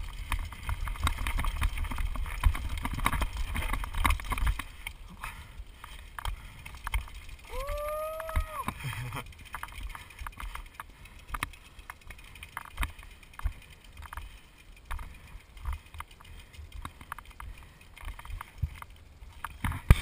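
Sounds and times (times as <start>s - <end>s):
bike rattling over stones: 0.0s - 20.0s.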